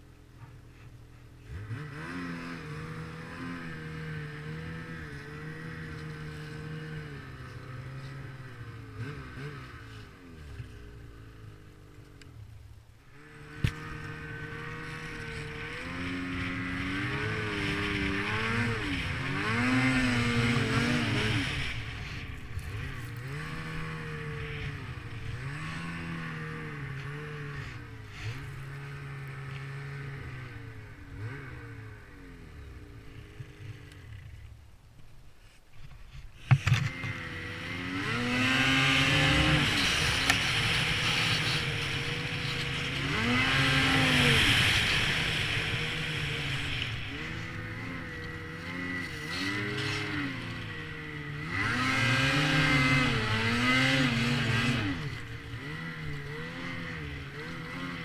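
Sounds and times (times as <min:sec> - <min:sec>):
snowmobile engine revving: 0:00.8 - 0:12.2, 0:13.0 - 0:34.5, 0:36.4 - 0:58.0.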